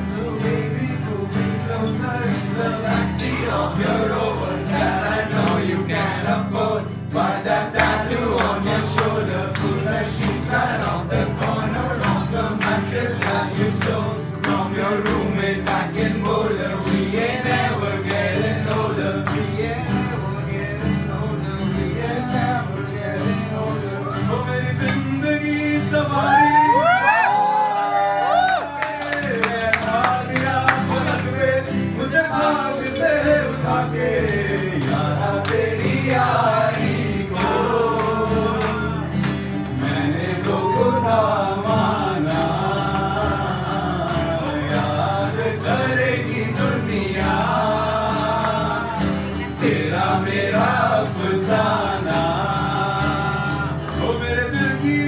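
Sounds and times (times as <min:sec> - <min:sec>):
man singing: 0:00.0 - 0:39.2, 0:39.8 - 0:55.0
acoustic guitars: 0:00.0 - 0:55.0.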